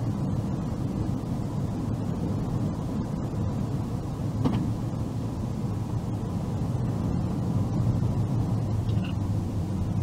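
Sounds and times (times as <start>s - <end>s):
car driving on paved road: 0.0s - 10.0s.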